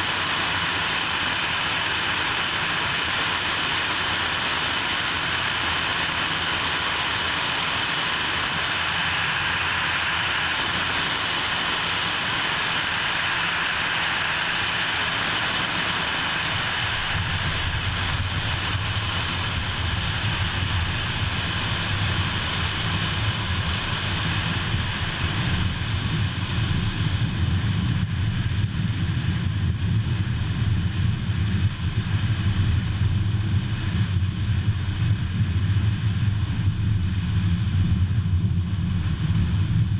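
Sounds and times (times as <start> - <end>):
piston aircraft engines running: 0.0 - 39.9.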